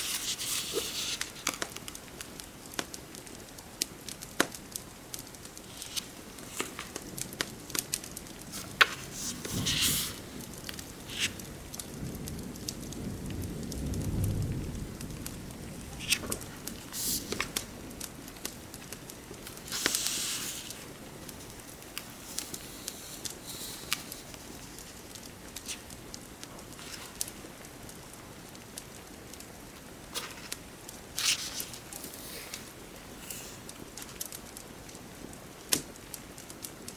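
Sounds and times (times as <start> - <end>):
fireplace crackling and popping: 0.0 - 36.9
rain patter: 0.0 - 36.9.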